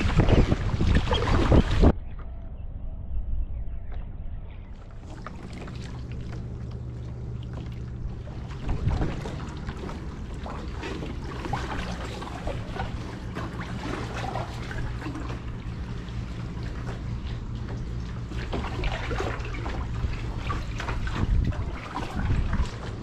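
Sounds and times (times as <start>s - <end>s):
water splashing around kayak: 0.0s - 2.0s, 4.8s - 23.0s
steady low rumble: 0.0s - 23.0s.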